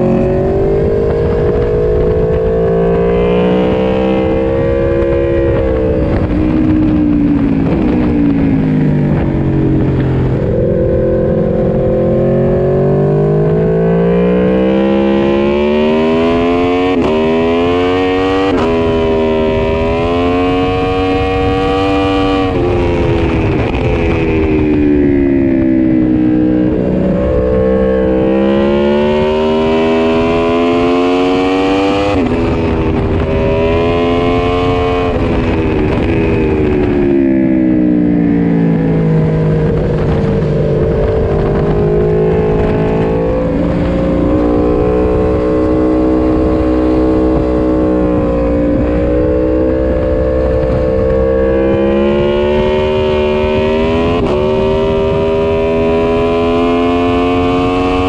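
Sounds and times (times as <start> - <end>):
motorcycle engine accelerating: 0.0 - 58.0
wind rush: 0.0 - 58.0.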